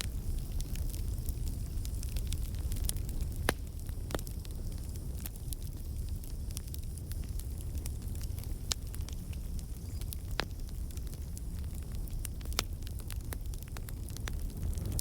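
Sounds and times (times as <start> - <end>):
burning logs crackling and popping: 0.0 - 15.0
fire flames rumbling: 0.0 - 15.0.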